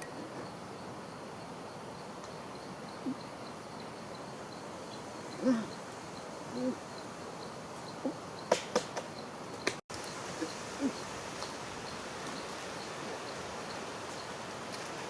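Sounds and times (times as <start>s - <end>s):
faint insect ticking: 0.0s - 15.0s.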